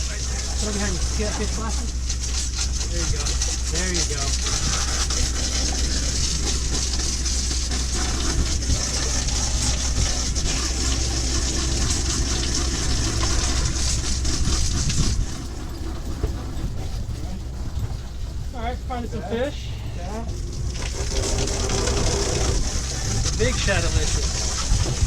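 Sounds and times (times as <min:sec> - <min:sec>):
sea rumble: 0:00.0 - 0:25.0.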